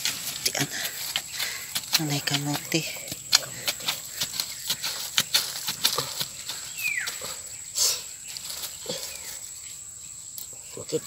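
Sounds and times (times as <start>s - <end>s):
wooden stick digging in soil: 0.0s - 9.5s.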